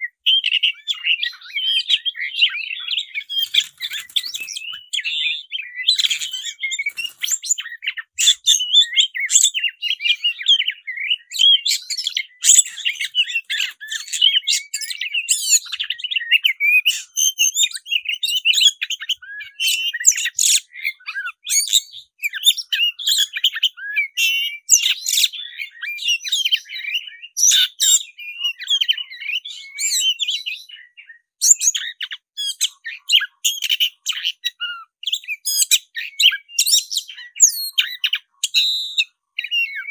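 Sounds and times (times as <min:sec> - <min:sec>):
bird singing whistles and clicks: 0:00.0 - 0:39.9.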